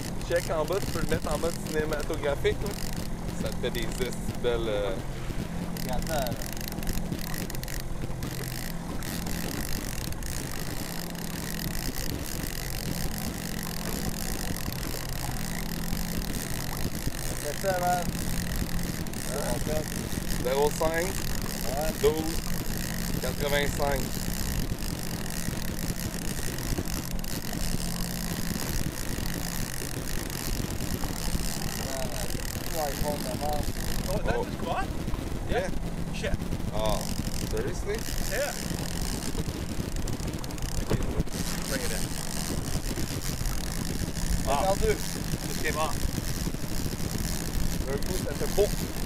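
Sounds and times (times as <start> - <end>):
boat motor humming: 0.0 - 49.0
wind and water rushing: 0.0 - 49.0.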